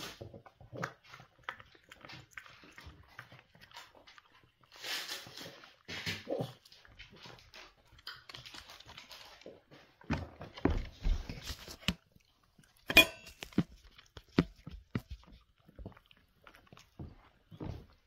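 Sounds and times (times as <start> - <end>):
puppy chewing: 0.0 - 18.0.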